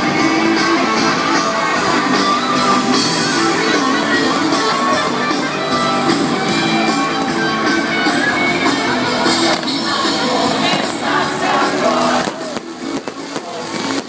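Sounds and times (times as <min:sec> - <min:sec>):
faint crowd: 0:00.0 - 0:14.0
live rock music with guitar: 0:00.0 - 0:14.0.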